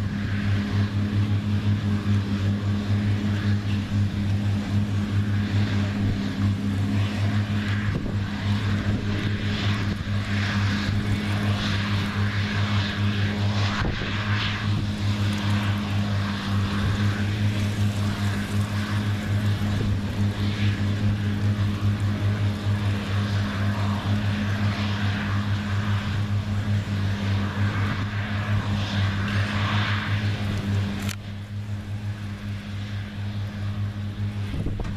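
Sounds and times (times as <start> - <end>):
combine engine drone: 0.0 - 34.9.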